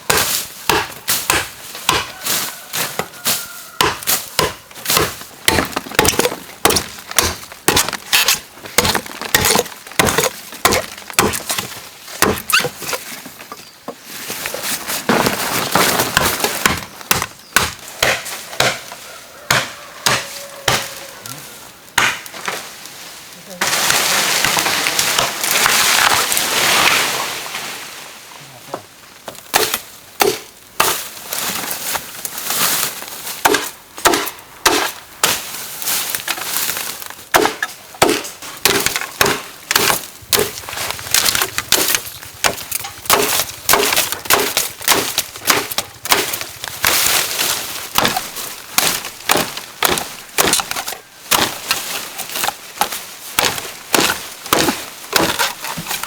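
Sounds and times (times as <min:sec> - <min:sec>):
bamboo being chopped: 0:00.0 - 0:13.1, 0:15.0 - 0:21.2, 0:22.0 - 0:22.6, 0:23.6 - 0:26.4, 0:29.2 - 0:31.2, 0:33.4 - 0:56.0
rustle: 0:00.2 - 0:05.3, 0:11.5 - 0:16.7, 0:18.2 - 0:56.0.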